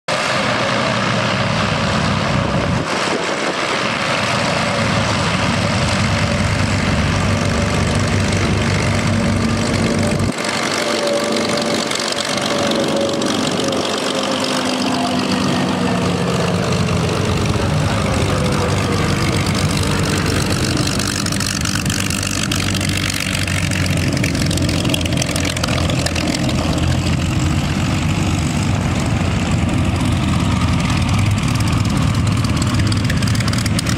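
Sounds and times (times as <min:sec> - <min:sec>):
other aircraft engines running: 0:00.1 - 0:33.9
propeller plane engine passing: 0:00.1 - 0:33.9.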